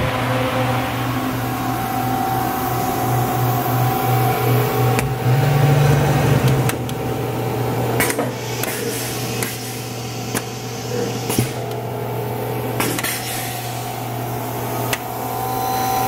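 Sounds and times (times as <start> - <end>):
machine electrical hum: 0.0 - 16.0.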